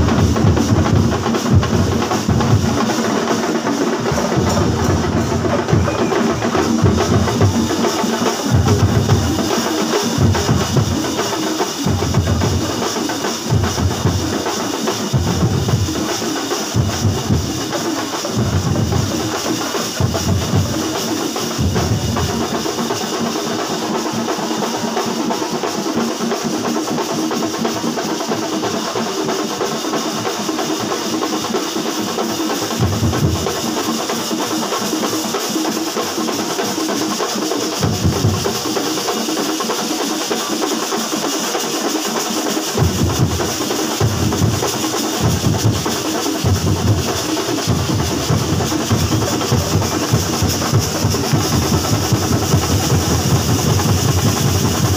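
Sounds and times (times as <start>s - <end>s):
heavy drumming: 0.0s - 54.9s.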